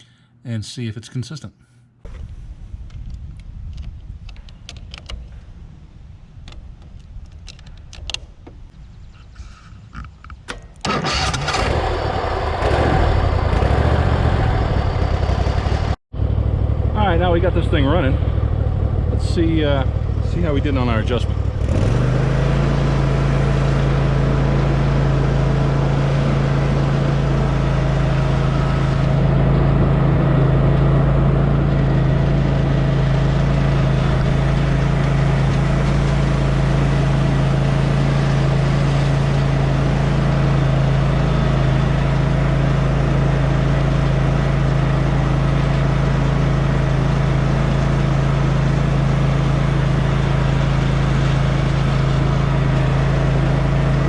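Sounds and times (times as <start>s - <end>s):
mower engine humming: 6.4s - 54.0s.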